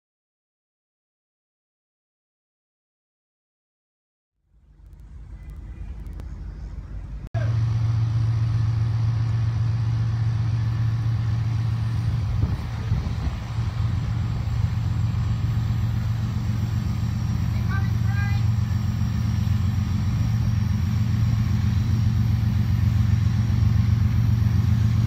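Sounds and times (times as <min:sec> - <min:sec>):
diesel locomotive engine drone: 0:04.4 - 0:25.0.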